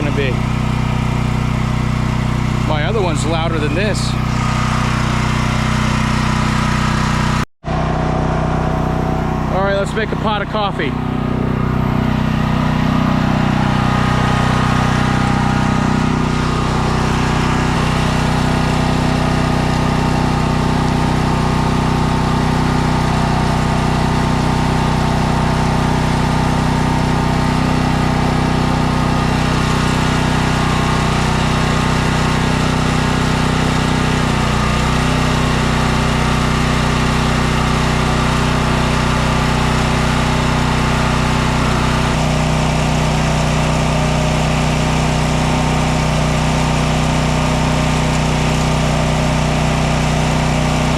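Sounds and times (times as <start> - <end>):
portable generator running: 0.0 - 50.9.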